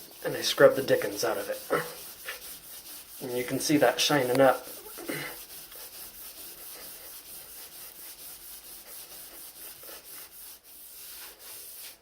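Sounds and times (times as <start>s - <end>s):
hand scrubbing metal fixture: 0.0s - 12.0s.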